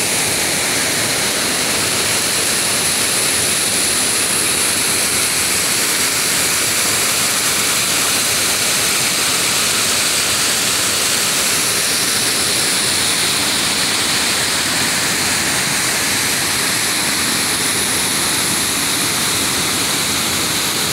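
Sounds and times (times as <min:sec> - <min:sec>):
river water rushing over stones: 0:00.0 - 0:20.9.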